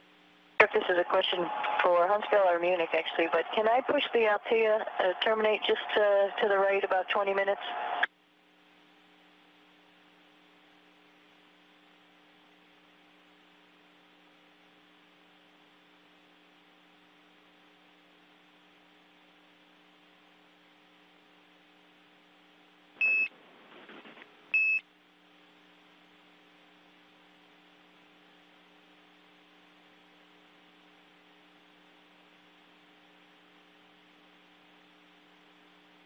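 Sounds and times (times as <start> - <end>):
low electronic hum: 0.0 - 36.0.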